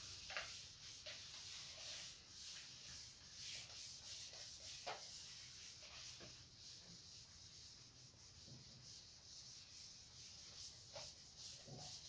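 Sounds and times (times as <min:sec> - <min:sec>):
whiteboard being wiped: 0:00.0 - 0:12.0.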